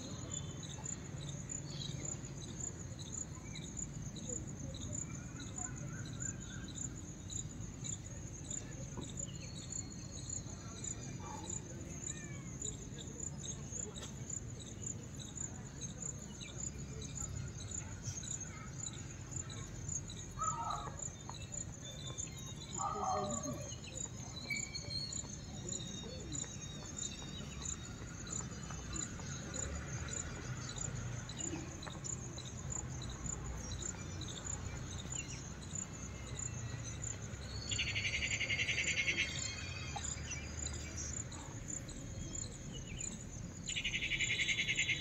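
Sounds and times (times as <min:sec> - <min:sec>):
insects chirping: 0:00.0 - 0:45.0.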